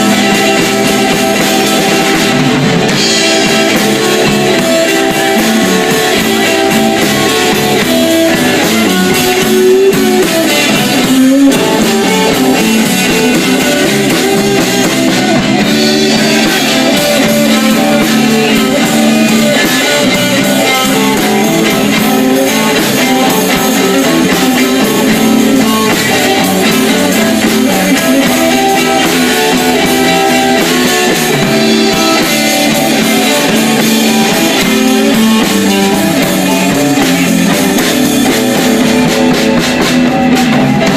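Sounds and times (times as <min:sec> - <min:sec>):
lead electric guitar: 0:00.0 - 0:40.9
live blues band playing: 0:00.0 - 0:40.9.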